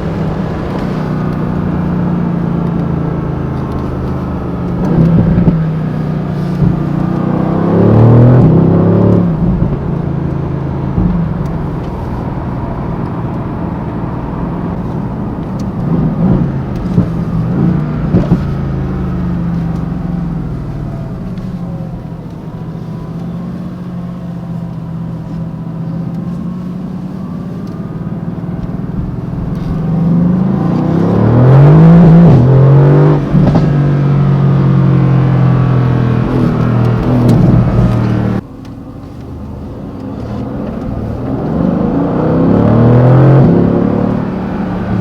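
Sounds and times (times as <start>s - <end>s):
sports car engine accelerating: 0.0s - 45.0s.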